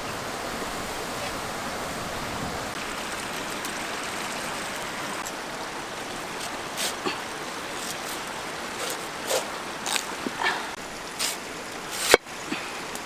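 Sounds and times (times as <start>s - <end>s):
rushing stream: 0.0s - 13.0s.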